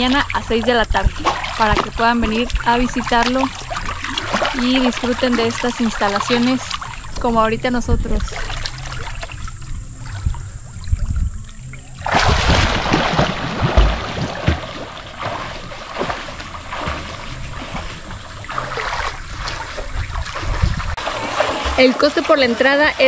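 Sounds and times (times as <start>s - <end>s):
low wind rumble on microphone: 0.0s - 21.0s
water splashing from swimming strokes: 0.0s - 23.0s.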